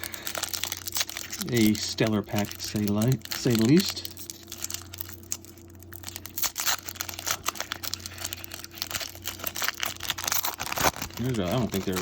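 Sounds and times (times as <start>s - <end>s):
card pack wrapper crinkling: 0.0s - 12.0s.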